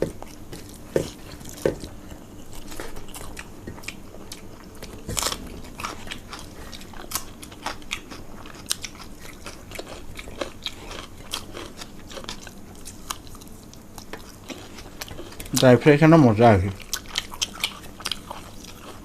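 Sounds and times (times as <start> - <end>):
chewing crunchy food: 0.0 - 15.9, 16.7 - 19.0.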